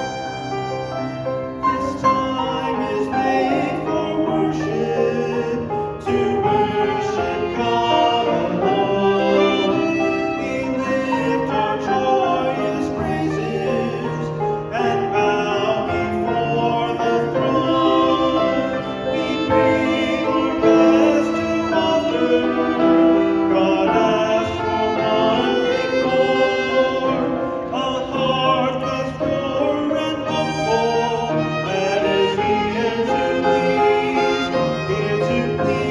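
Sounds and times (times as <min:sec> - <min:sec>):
church ensemble sustained notes: 0:00.0 - 0:35.9.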